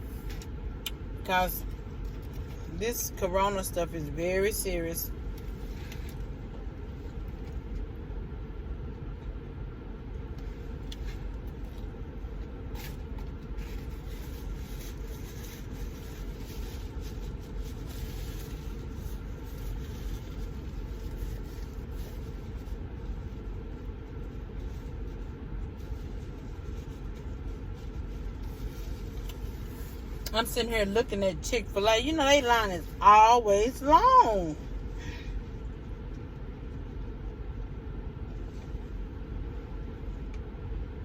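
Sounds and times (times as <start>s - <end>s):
low rumble inside car: 0.0s - 41.0s.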